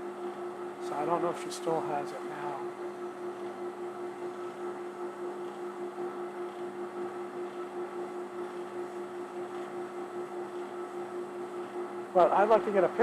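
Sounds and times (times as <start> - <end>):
electric motor hum: 0.0 - 13.0.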